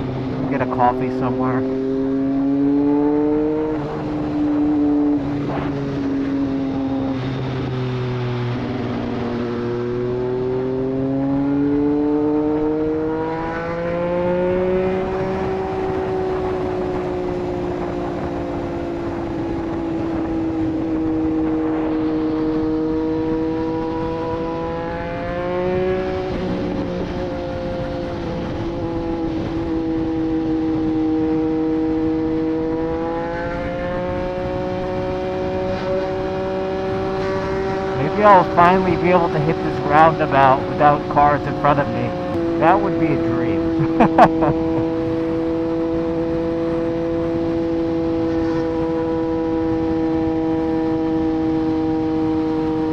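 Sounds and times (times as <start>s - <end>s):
motorcycle engine at cruising speed: 1.6s - 38.0s, 44.6s - 52.9s.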